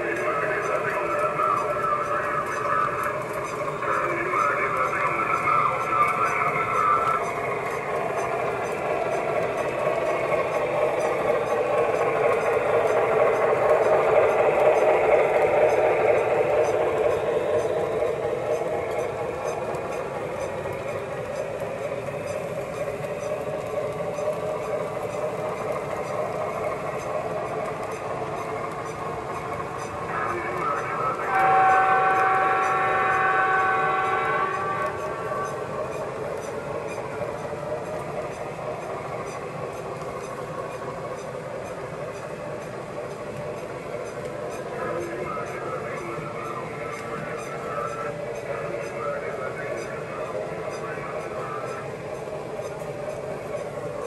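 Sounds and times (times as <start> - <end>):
toy train wheels rumbling on rails: 0.0 - 54.0.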